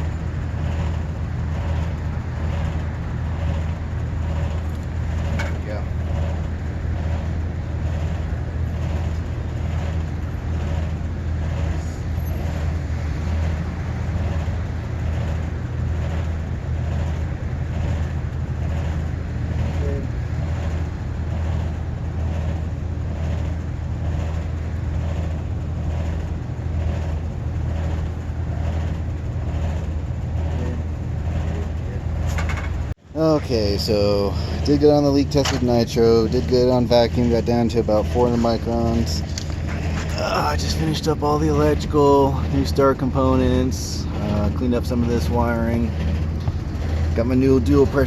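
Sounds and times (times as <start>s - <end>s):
machinery hum: 0.0s - 48.0s.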